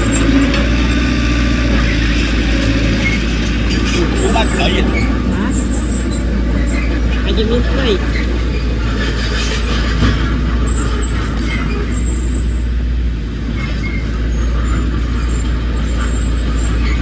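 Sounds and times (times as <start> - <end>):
diesel engine deep rumble: 0.0 - 17.0.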